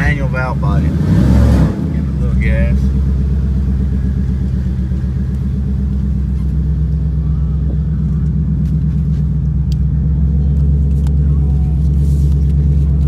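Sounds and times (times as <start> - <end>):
engine rumbling at low revs: 0.0 - 13.0.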